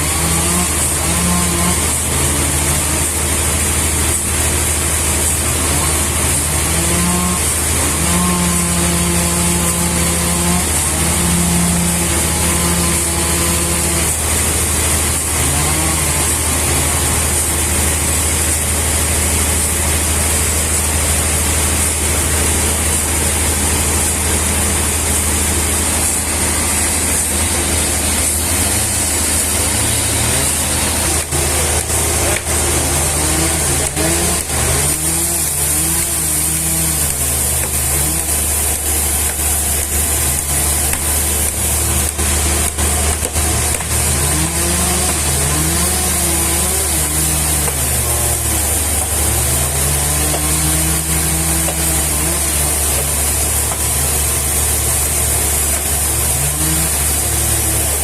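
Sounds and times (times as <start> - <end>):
machine engine humming and hissing: 0.0 - 58.0.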